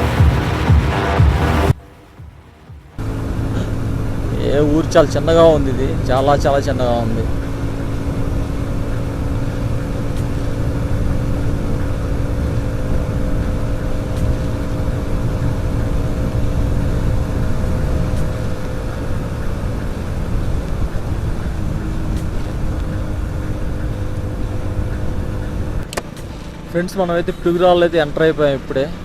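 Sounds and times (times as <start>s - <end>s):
motorcycle engine cruising: 0.0s - 29.0s
road rumble: 0.0s - 29.0s
wind noise: 3.0s - 26.4s.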